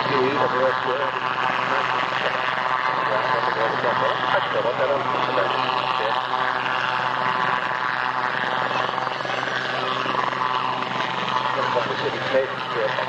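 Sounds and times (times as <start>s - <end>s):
helicopter drone: 0.0s - 13.0s.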